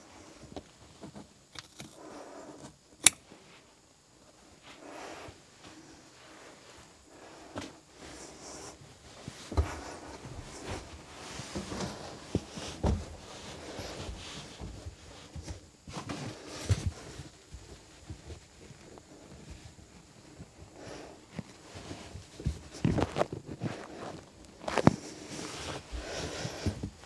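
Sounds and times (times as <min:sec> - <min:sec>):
carpet rustling and scraping: 0:00.0 - 0:27.0.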